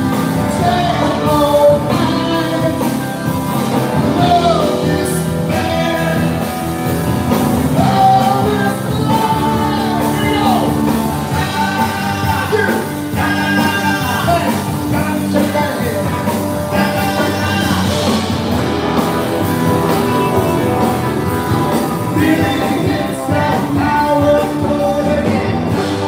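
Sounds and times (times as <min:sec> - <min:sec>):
person singing: 0:00.0 - 0:18.3, 0:19.7 - 0:26.0
live rock band playing: 0:00.0 - 0:26.0.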